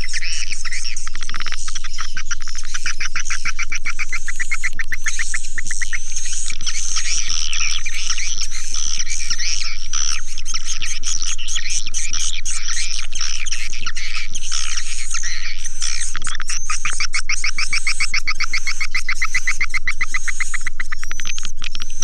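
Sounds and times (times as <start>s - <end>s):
steady low hum: 0.0s - 22.0s
swiftlets chirping and twittering: 0.0s - 22.0s.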